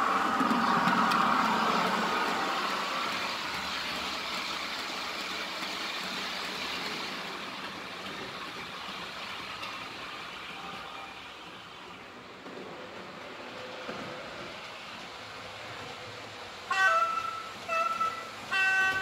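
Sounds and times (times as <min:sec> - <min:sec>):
model train wheels rolling on track: 0:00.0 - 0:19.0.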